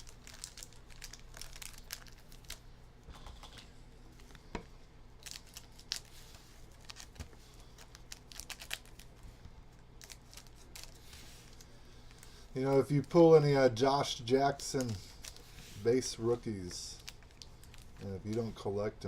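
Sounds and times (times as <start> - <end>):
pack wrappers crinkling: 0.0 - 2.7, 5.2 - 18.9.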